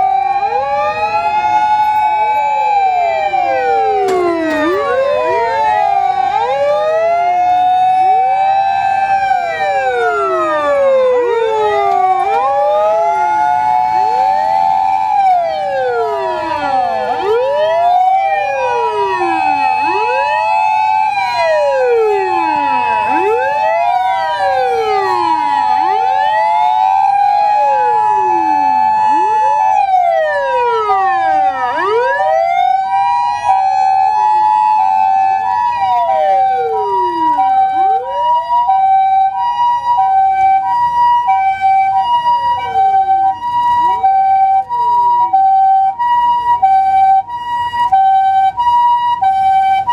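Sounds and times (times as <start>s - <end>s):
fire engine sirens wailing: 0.0s - 49.9s
two-tone hi-lo siren: 0.0s - 49.9s.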